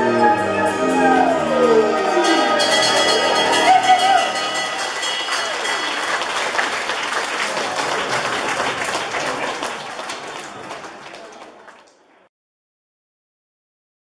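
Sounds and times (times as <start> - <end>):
audience applauding: 1.0 - 12.3.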